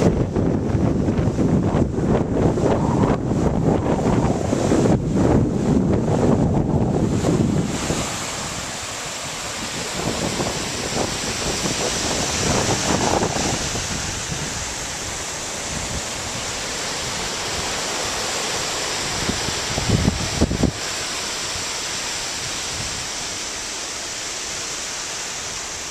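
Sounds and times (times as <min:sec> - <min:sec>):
surf washing over sand: 0:00.0 - 0:25.9.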